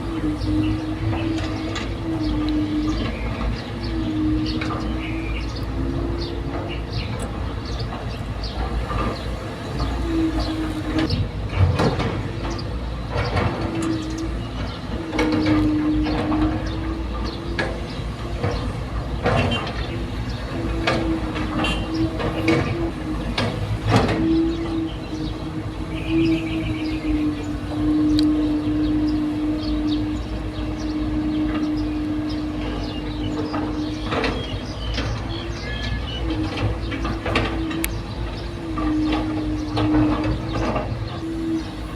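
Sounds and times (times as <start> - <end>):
excavator diesel rumble: 0.0 - 41.9
machine hum: 0.0 - 41.9.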